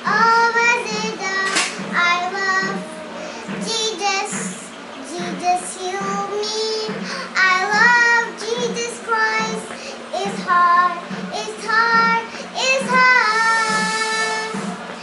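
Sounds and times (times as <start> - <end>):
young girl singing: 0.0 - 15.0.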